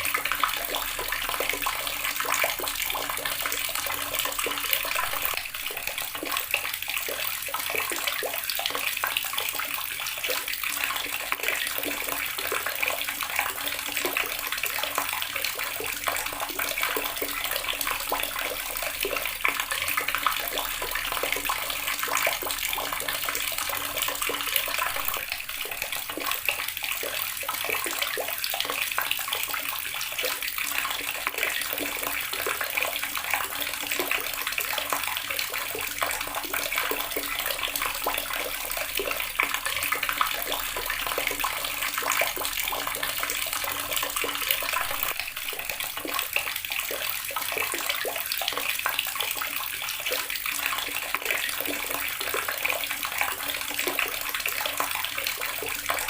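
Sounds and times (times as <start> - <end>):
tap water splashing into basin: 0.0 - 56.0.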